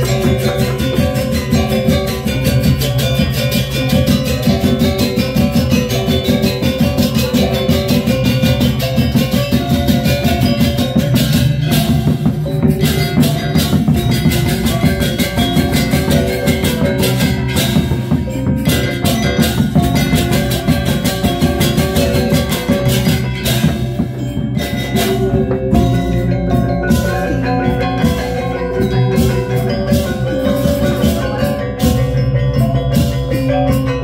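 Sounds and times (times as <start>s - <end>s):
gamelan gong ensemble playing: 0.0s - 34.0s.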